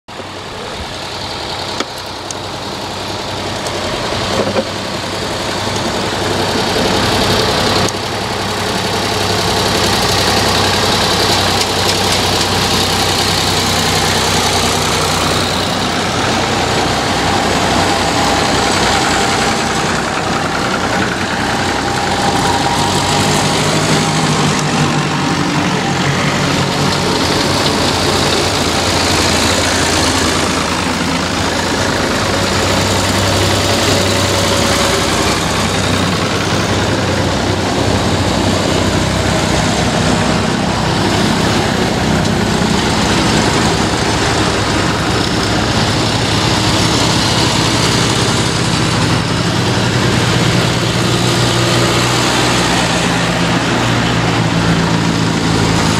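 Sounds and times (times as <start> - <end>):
tractor engines driving past: 0.0 - 55.9.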